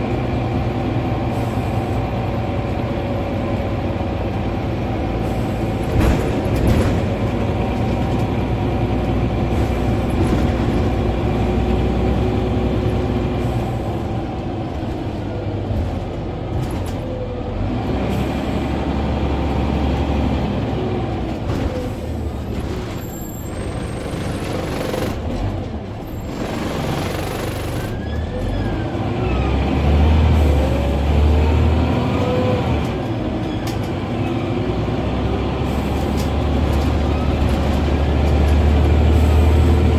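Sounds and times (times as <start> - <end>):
bus diesel engine running: 0.0 - 39.9
road noise: 0.0 - 39.9.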